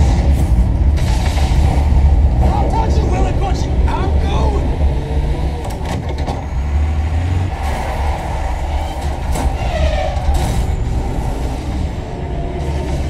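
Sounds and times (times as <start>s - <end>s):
heavy truck deep rumble: 0.0s - 13.0s.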